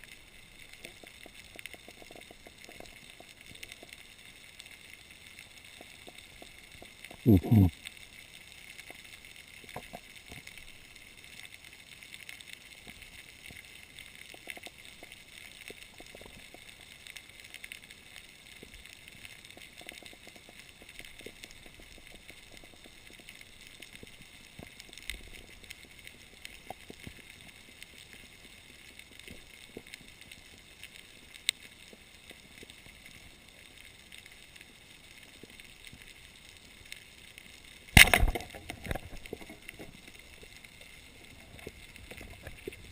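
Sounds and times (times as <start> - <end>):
crackles and clicks: 0.0 - 42.9.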